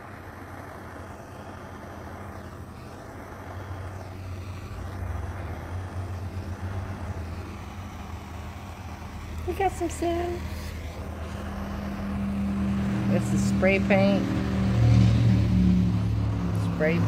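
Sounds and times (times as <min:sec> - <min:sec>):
torch flame rushing: 0:00.0 - 0:17.0.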